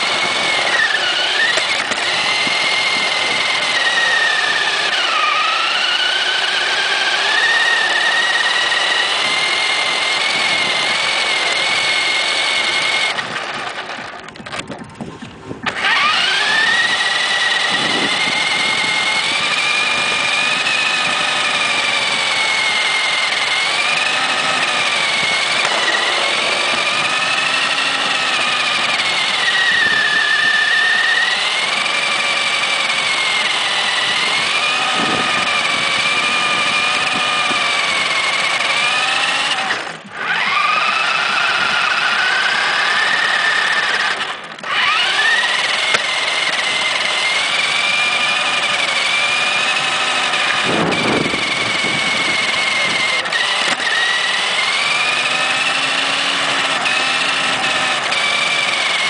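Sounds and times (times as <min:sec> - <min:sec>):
rc car motor whining: 0:00.0 - 0:59.0.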